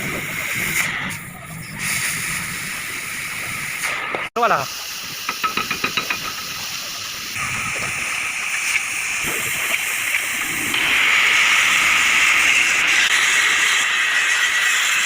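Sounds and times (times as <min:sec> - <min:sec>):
gas cutting torch hissing: 0:00.0 - 0:15.0.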